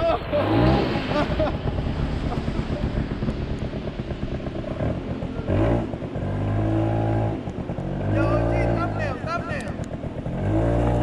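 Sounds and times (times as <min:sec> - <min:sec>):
dirt bike engine revving: 0:00.3 - 0:09.4, 0:10.0 - 0:11.0.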